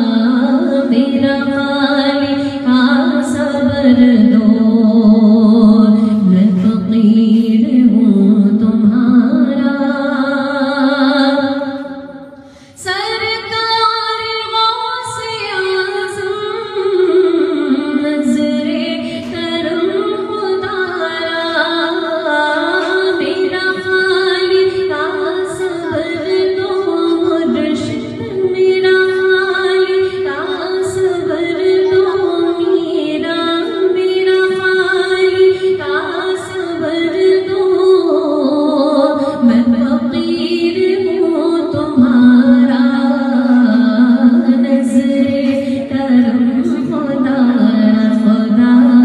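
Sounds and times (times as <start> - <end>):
woman singing devotional song: 0.0 - 49.0.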